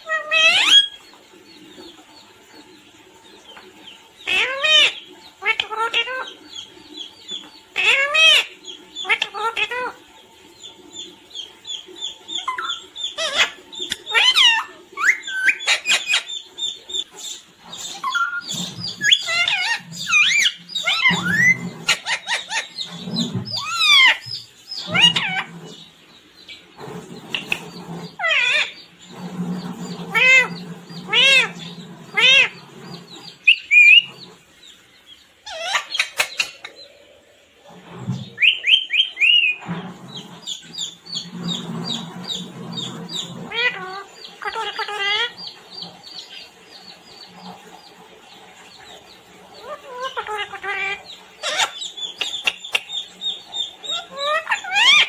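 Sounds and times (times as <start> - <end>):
parrot squawking and chirping: 0.0 - 1.1, 4.2 - 36.8, 37.8 - 55.0.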